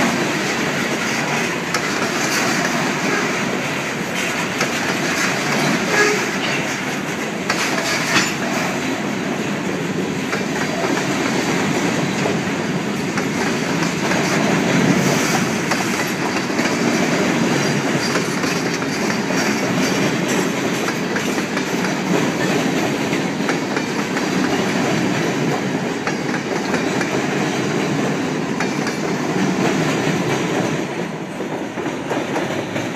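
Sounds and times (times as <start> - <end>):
freight train cars rumbling: 0.0 - 32.9
wheels clacking over rail joints: 0.0 - 32.9.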